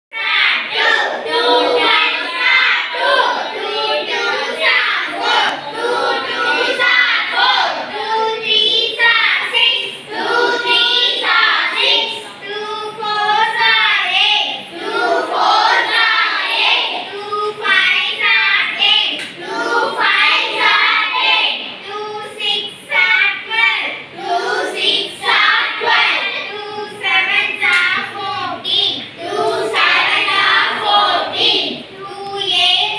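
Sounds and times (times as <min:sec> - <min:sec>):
children chanting together: 0:00.1 - 0:32.9.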